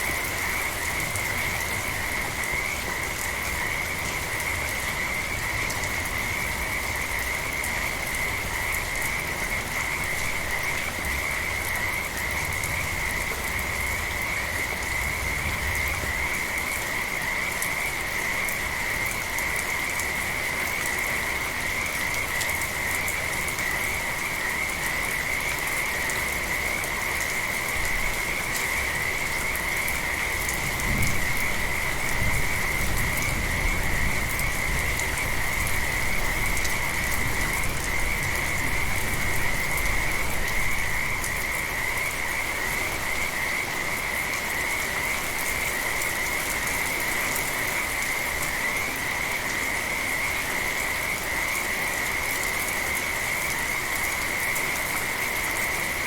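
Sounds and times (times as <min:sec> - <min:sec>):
frogs trilling: 0:00.0 - 0:56.0
steady rain hiss: 0:00.0 - 0:56.0.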